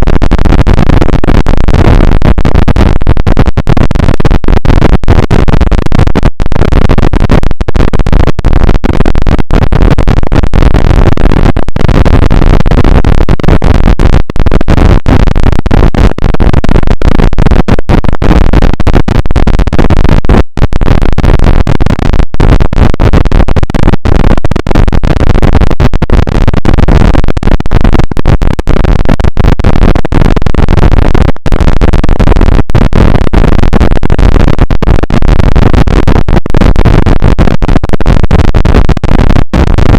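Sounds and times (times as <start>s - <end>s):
harsh distorted noise: 0.0s - 39.9s.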